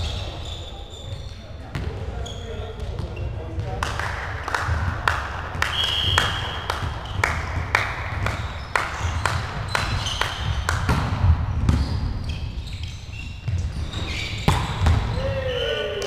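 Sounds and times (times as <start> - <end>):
volleyballs hit and bouncing: 1.6 - 16.0.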